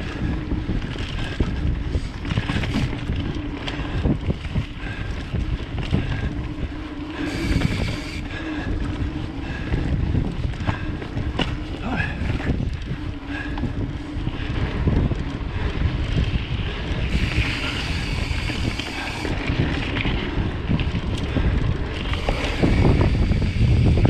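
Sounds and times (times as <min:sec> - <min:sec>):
bike knocking and rattling: 0:00.0 - 0:24.0
tyres rumbling on dirt trail: 0:00.0 - 0:24.0
wind buffeting microphone: 0:00.0 - 0:24.0.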